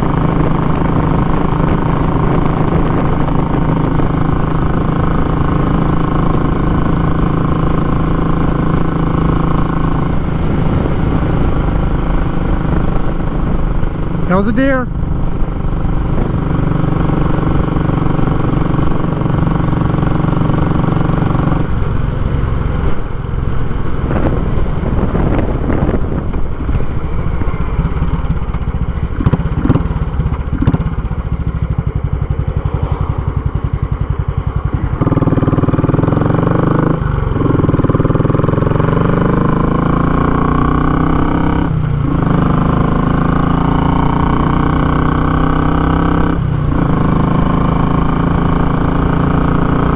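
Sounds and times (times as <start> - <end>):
motorcycle engine riding: 0.0 - 49.9.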